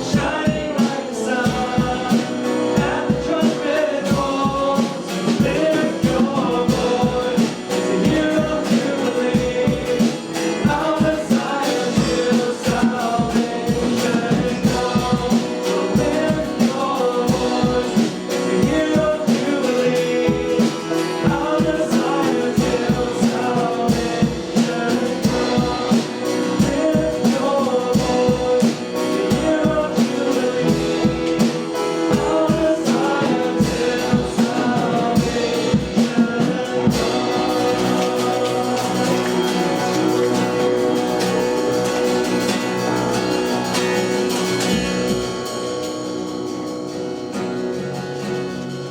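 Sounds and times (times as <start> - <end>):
people singing: 0.0 - 48.9
worship band playing gospel song: 0.0 - 48.9.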